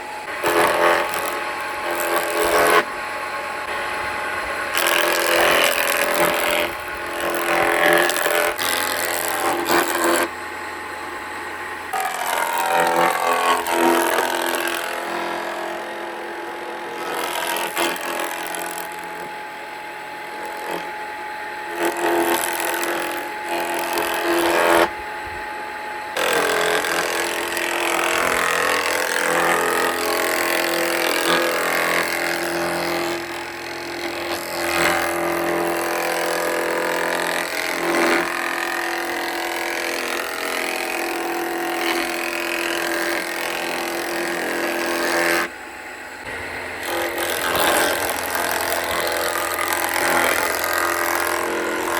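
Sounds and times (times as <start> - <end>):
wood cutting or sanding noise: 0.0 - 51.9
woodworking machine motor hum: 0.0 - 51.9.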